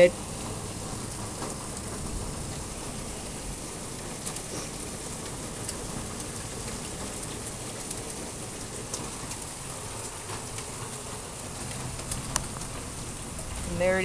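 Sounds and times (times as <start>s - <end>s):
hail ticks: 0.0s - 14.0s
heavy rain: 0.0s - 14.0s.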